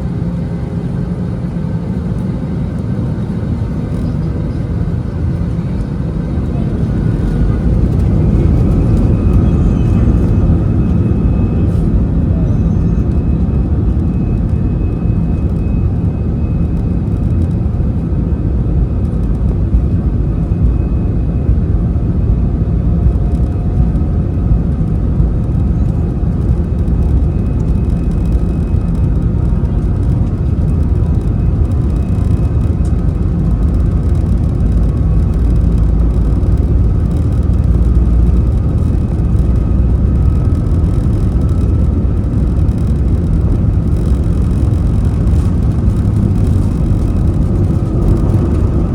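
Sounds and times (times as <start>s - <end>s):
jet engines rumbling in cabin: 0.0s - 48.9s.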